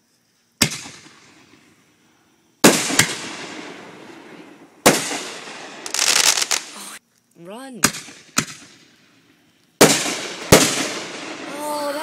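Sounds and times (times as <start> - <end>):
fireworks exploding: 0.6 - 1.8, 2.6 - 7.0, 7.7 - 12.0.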